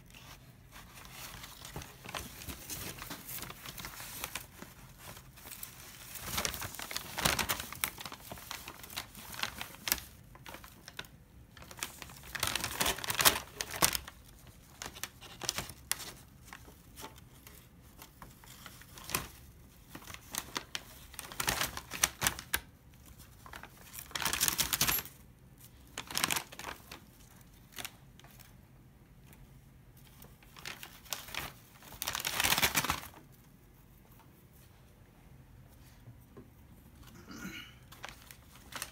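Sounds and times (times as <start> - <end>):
paper bag crinkling: 0.0 - 28.5, 30.0 - 33.4, 37.9 - 38.9.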